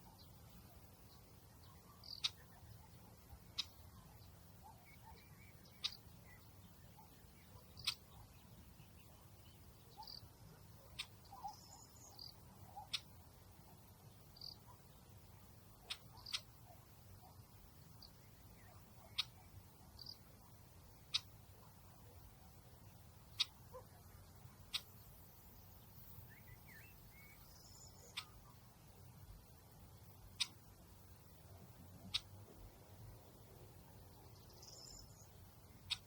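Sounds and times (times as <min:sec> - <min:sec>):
birds chirping: 0:00.0 - 0:36.0
faint low outdoor rumble: 0:00.0 - 0:36.0.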